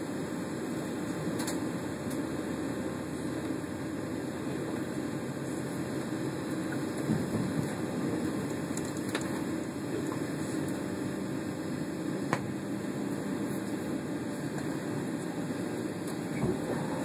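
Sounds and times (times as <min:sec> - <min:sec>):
cabin air conditioning hum: 0:00.0 - 0:17.0.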